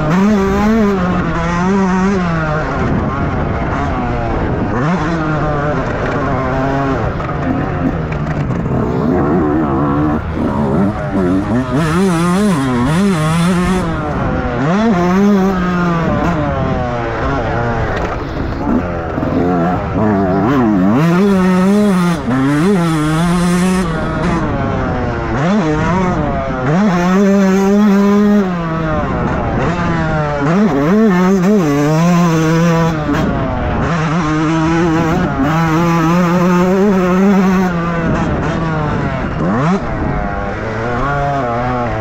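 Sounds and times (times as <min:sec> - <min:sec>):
motocross bike engine revving: 0:00.0 - 0:42.0.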